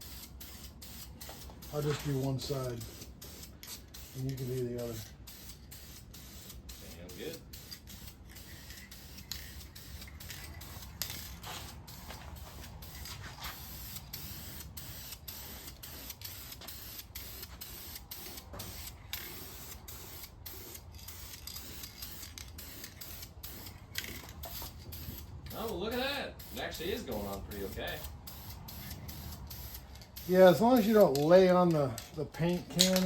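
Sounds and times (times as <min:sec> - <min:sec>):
aerosol can spraying hiss: 0:00.0 - 0:02.2, 0:05.2 - 0:23.8, 0:24.4 - 0:25.7, 0:26.4 - 0:31.0.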